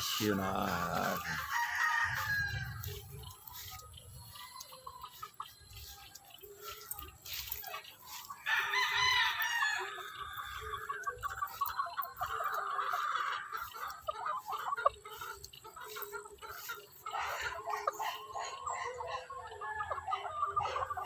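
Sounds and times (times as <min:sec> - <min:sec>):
roosters crowing: 0:00.0 - 0:21.0.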